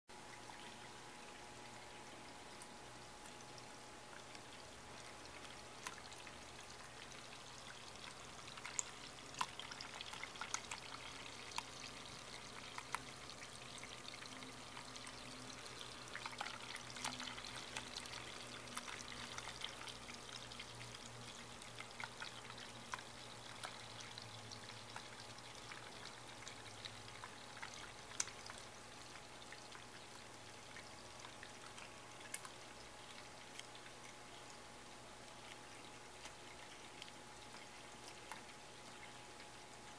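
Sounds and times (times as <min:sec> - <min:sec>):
fountain water trickling: 0:00.1 - 0:39.9
small water splashes and drips: 0:00.1 - 0:39.9.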